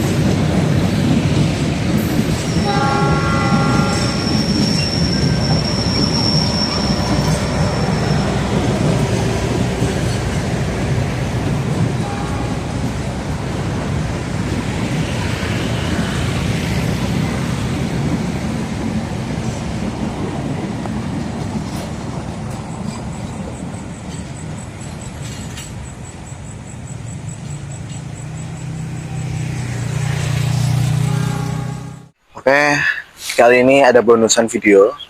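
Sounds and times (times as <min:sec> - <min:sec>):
train wheels rumbling on rails: 0:00.0 - 0:32.2.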